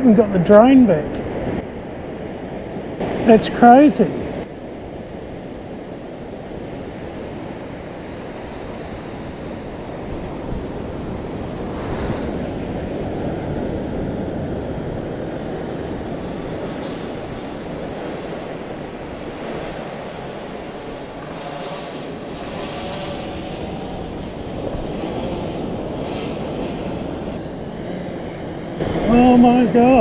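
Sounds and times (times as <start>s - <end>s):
surf breaking on sand beach: 0.0s - 30.0s
wind buffeting microphone: 0.0s - 30.0s.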